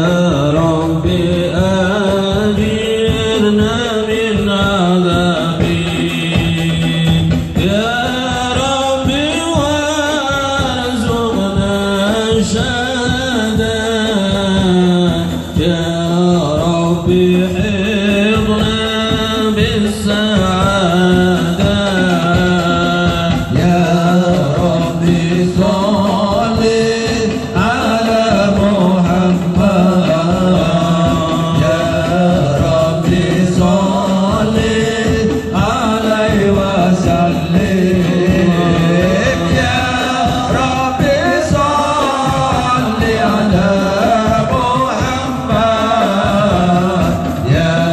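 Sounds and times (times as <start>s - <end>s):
hand drum strokes: 0.0s - 47.9s
male voices chanting in chorus: 0.0s - 47.9s.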